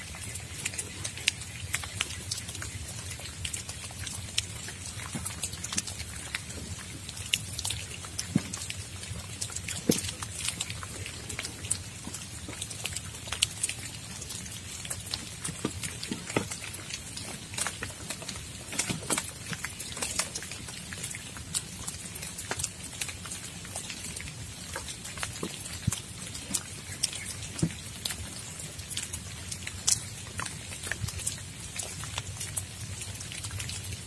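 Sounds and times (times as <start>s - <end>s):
large raindrops tapping: 0.0s - 34.0s
rain falling: 0.0s - 34.0s.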